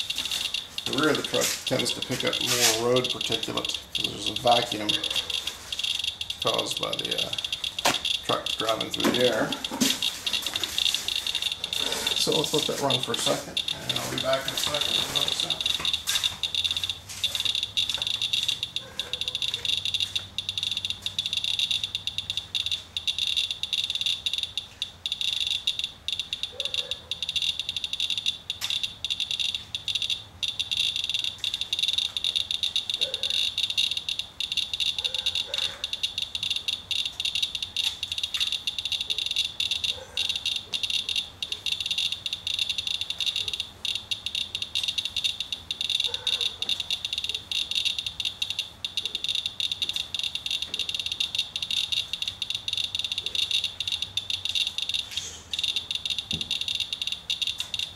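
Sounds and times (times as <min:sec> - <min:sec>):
geiger counter clicking rapidly: 0:00.0 - 0:57.9.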